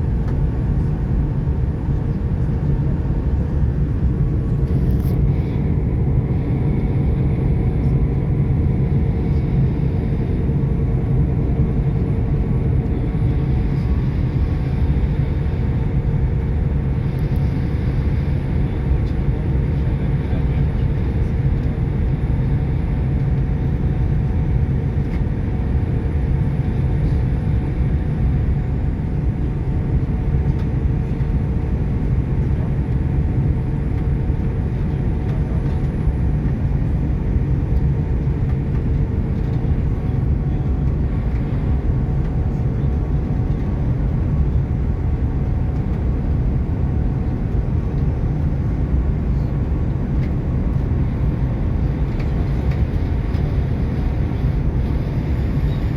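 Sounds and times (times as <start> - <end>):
jet engine rumble: 0.0 - 55.9.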